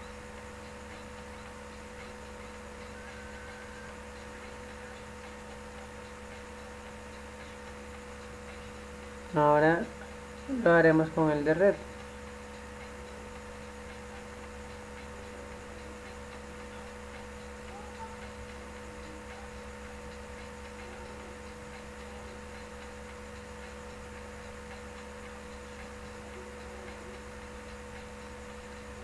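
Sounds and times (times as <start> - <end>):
constant hiss: 0.0 - 29.0
electrical hum: 0.0 - 29.0.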